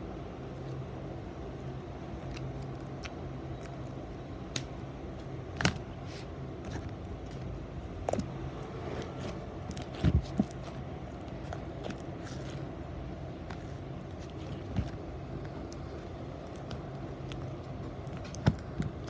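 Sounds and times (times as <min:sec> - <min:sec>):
steady low hum: 0:00.0 - 0:19.0
hands kneading slime: 0:02.0 - 0:19.0.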